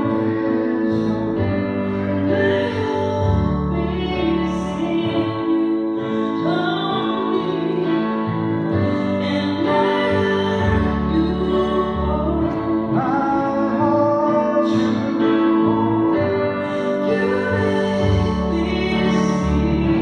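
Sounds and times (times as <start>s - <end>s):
instrumental chords with bass: 0.0s - 20.0s
worship song duet: 0.0s - 20.0s.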